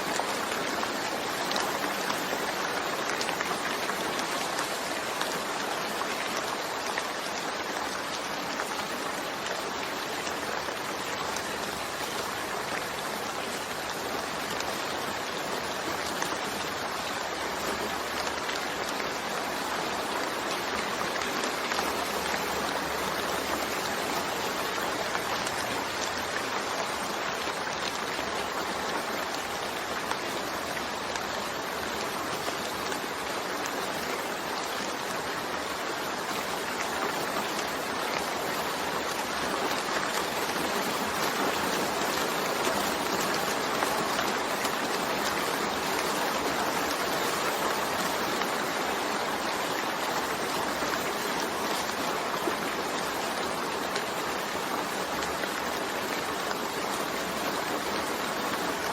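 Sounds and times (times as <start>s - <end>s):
dense rainfall: 0.0s - 58.9s.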